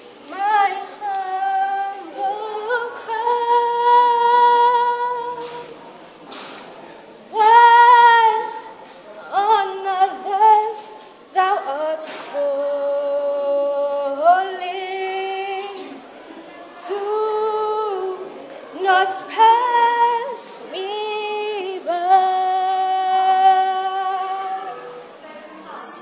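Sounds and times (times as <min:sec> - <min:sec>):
woman singing a cappella: 0:00.2 - 0:05.8, 0:07.3 - 0:16.0, 0:16.8 - 0:25.0.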